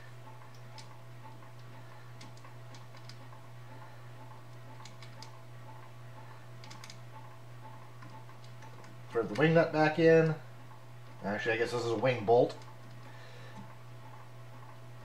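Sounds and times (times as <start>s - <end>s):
faint regular ticking: 0.0s - 15.0s
steady low hum: 0.0s - 15.0s.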